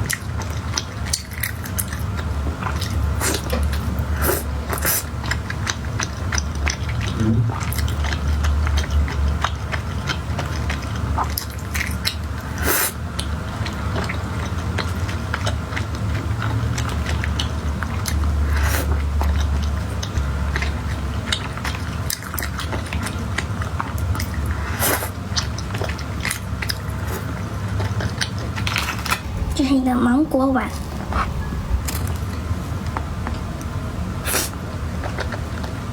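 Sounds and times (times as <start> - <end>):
chewing and biting food: 0.0 - 29.5, 30.8 - 35.9.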